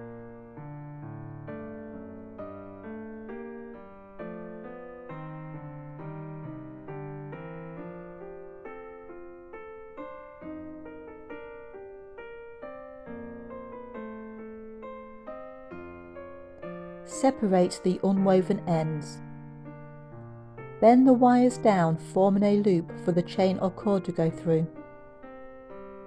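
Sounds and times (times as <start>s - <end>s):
gentle piano melody: 0.0s - 26.0s.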